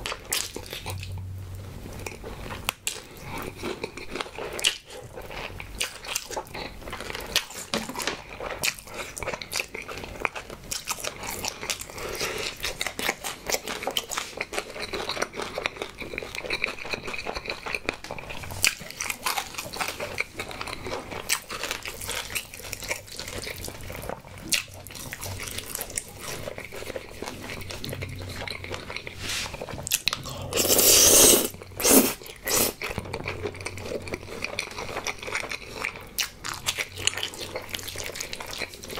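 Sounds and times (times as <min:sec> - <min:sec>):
crunching and chewing fried chicken: 0:00.0 - 0:38.9.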